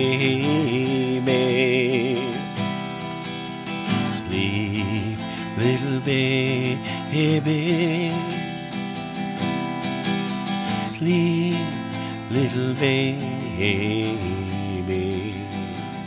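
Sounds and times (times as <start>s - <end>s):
man singing softly: 0.0s - 2.6s, 3.9s - 8.5s, 10.1s - 16.0s
acoustic guitar strumming: 0.0s - 16.0s.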